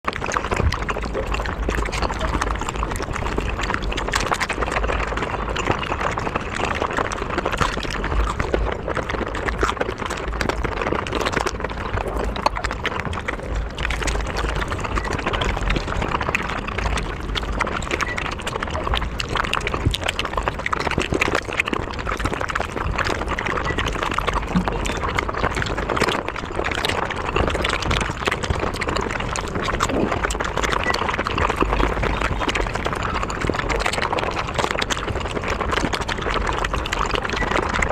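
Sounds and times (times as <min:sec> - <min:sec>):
chicken being bitten and chewed: 0:00.1 - 0:37.9.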